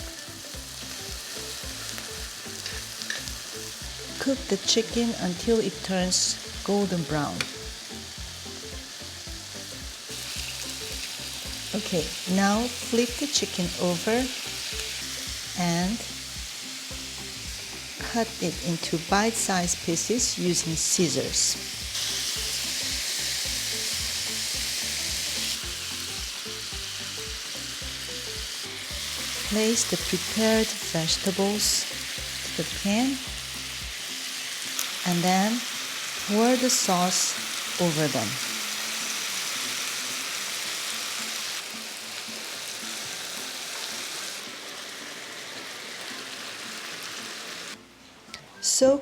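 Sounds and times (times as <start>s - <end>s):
chicken sizzling in hot oil: 0.0s - 47.8s.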